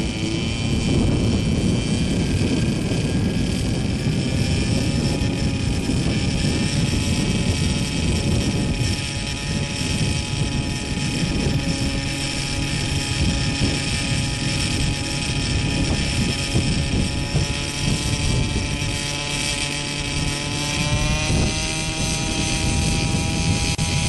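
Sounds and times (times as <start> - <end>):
helicopter rotor turning: 0.0 - 24.0
model helicopter engine running: 0.0 - 24.0.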